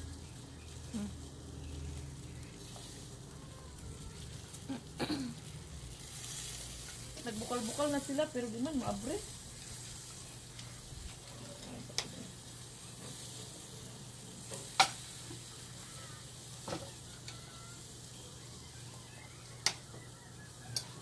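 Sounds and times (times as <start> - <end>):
oysters sizzling on a grill: 0.0 - 21.0.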